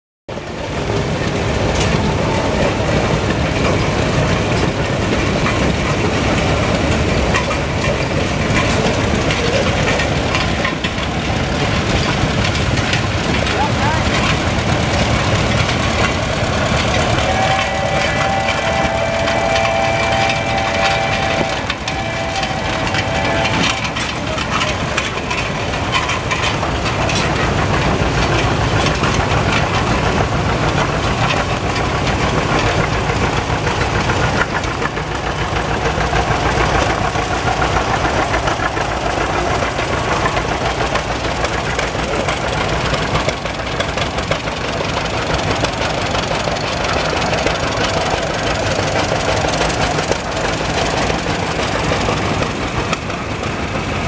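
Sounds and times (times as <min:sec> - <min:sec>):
tractor engines running: 0:00.3 - 0:54.0.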